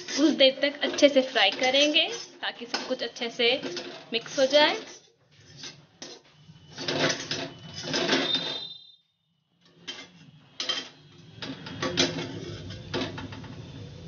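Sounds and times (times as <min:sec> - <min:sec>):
metal spatula scraping a pan: 0:00.0 - 0:08.9, 0:09.6 - 0:14.0.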